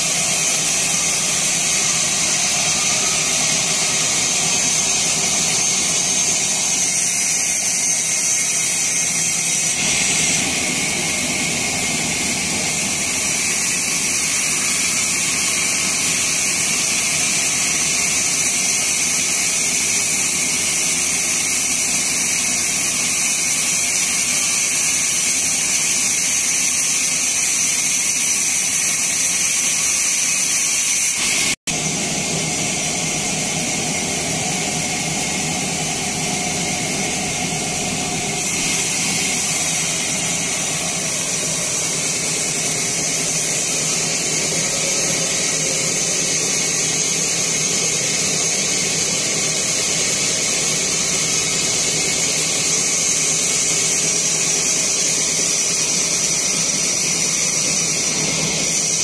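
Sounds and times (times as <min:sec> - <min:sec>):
bandsaw whining through wood: 0:00.0 - 0:59.0.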